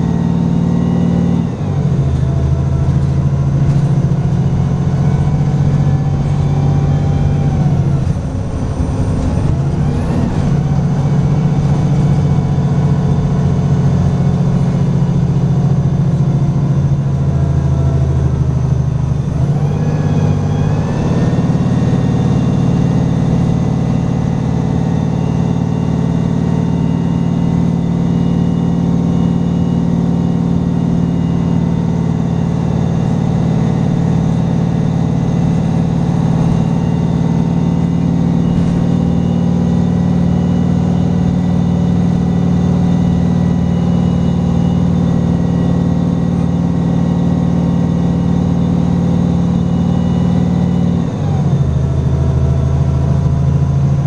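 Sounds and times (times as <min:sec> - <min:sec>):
bus diesel engine pulling: 0:00.0 - 0:54.0
road noise: 0:00.0 - 0:54.0.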